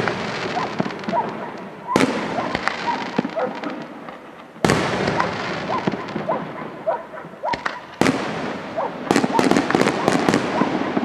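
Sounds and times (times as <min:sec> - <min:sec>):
firework crackling: 0:00.0 - 0:06.9, 0:07.6 - 0:11.0.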